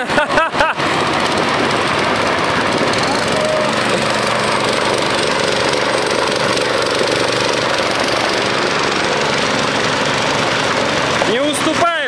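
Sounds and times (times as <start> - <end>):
small tractor engines straining: 0.0 - 12.0.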